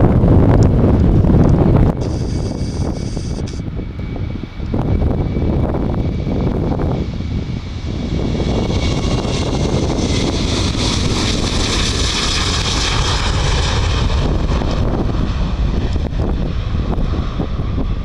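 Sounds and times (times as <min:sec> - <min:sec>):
jet engines passing: 0:00.0 - 0:18.0
wind buffeting microphone: 0:00.0 - 0:18.0.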